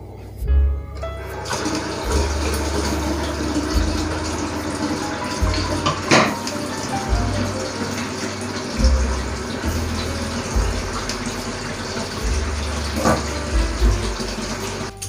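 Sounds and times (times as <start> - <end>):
water rushing: 1.2 - 15.0.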